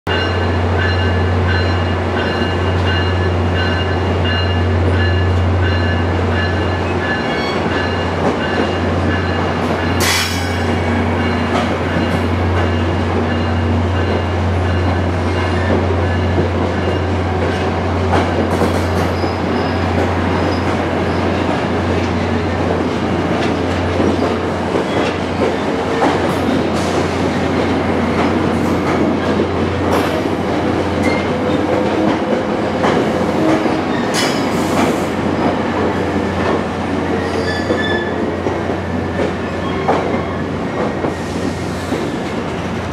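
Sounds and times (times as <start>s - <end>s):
train low hum: 0.1s - 42.9s.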